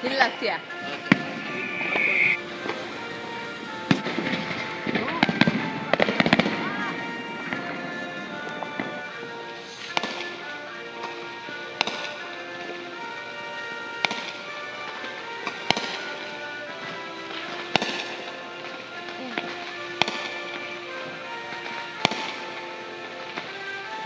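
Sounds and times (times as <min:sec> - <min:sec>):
background music: 0:00.0 - 0:24.0
fireworks bangs: 0:00.1 - 0:24.0.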